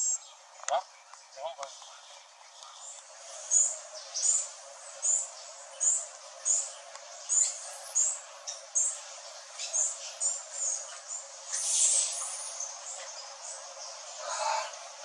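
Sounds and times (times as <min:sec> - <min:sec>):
bird chirping: 0:00.0 - 0:15.0
steady background hiss: 0:00.0 - 0:15.0.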